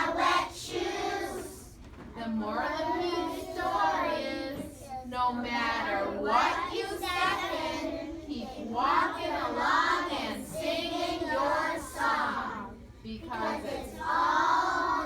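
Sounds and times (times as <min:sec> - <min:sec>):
children reciting in unison: 0:00.0 - 0:01.8, 0:02.4 - 0:15.0.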